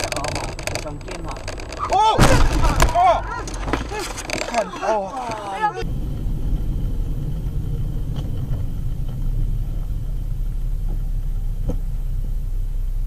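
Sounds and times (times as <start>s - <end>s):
car engine and tyres rumble: 0.0s - 13.0s.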